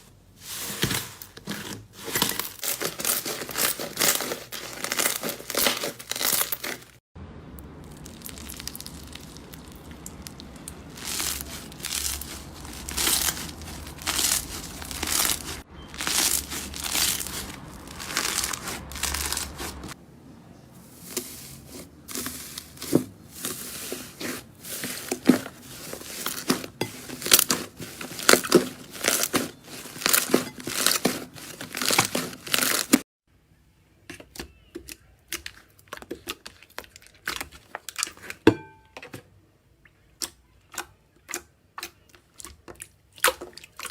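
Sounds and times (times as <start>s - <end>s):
slime squishing and crackling: 0.8s - 7.0s, 7.6s - 20.0s, 20.9s - 33.0s, 34.2s - 38.4s, 40.2s - 43.9s.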